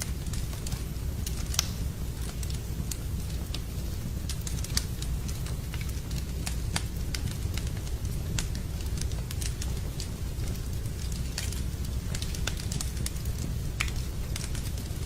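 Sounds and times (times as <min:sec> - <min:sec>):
campfire crackling and popping: 0:00.0 - 0:15.0
steady low rumble: 0:00.0 - 0:15.0.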